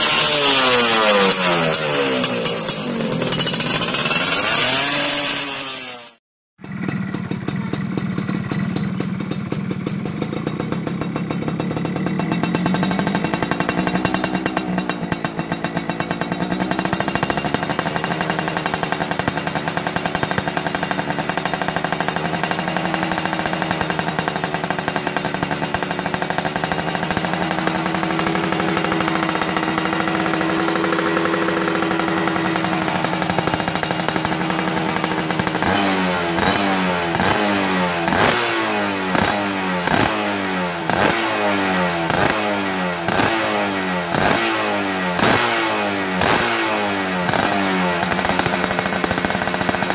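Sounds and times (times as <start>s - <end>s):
rattly two-stroke engine: 0.0s - 49.9s.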